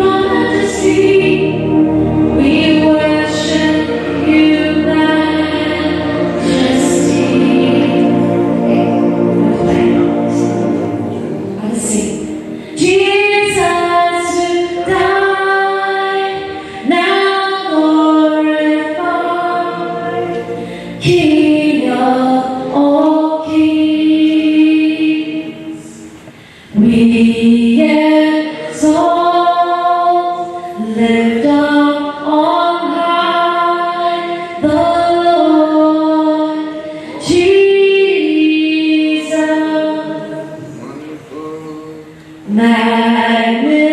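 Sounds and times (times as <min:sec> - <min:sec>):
choir singing: 0:00.0 - 0:26.2, 0:26.8 - 0:43.9.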